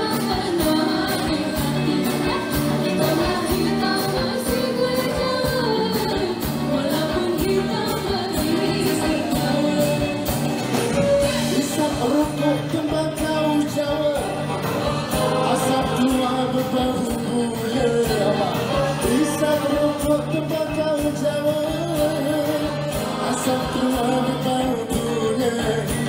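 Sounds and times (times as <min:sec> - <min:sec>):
live band playing: 0:00.0 - 0:26.0
person singing: 0:00.0 - 0:26.0
steady drum beat: 0:00.0 - 0:26.0.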